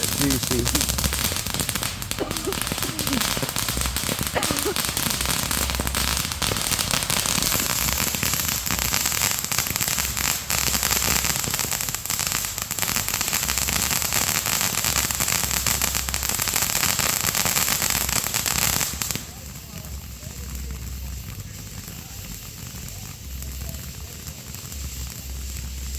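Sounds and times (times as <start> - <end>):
fireworks crackling: 0.0 - 25.9.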